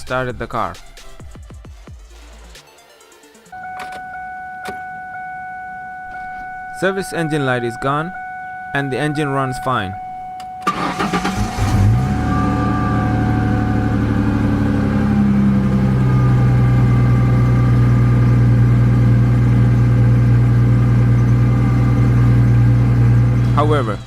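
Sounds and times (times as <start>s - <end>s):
car engine starting and idling: 3.6s - 24.0s.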